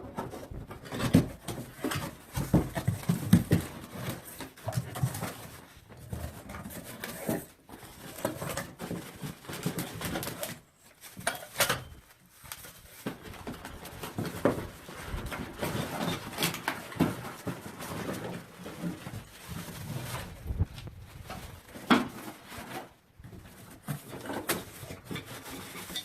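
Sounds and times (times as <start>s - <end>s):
packaging rustling and knocking: 0.0s - 26.0s.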